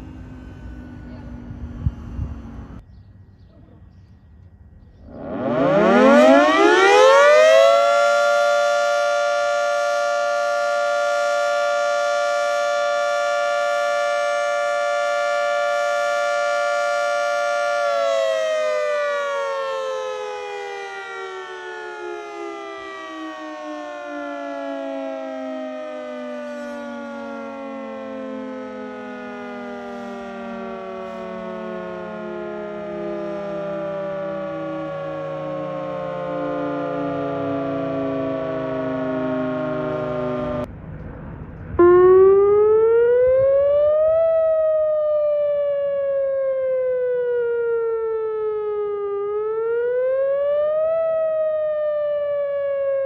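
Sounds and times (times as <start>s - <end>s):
warning siren: 0.0s - 2.8s, 5.0s - 40.7s, 41.6s - 53.0s.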